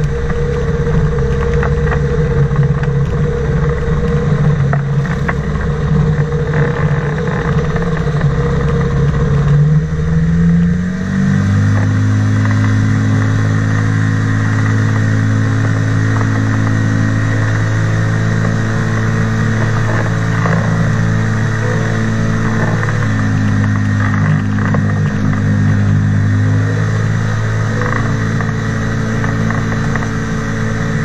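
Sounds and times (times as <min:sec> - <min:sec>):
propeller engine droning: 0:00.0 - 0:31.0.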